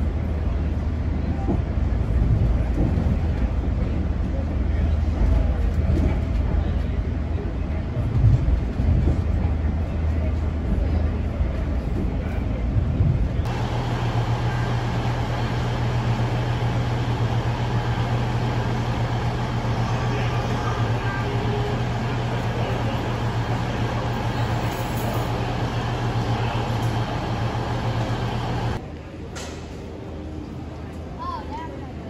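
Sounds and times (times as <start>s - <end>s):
constant low hum: 0.0s - 32.0s.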